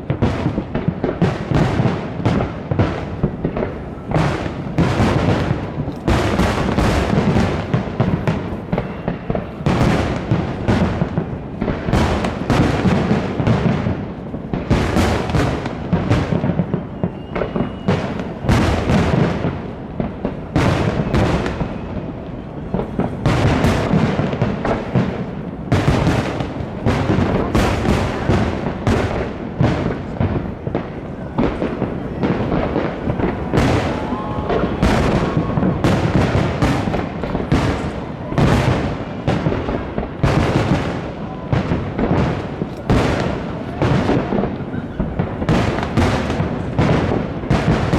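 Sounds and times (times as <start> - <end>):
fireworks bangs and booms: 0.0 - 47.9
fireworks crackle: 0.0 - 47.9.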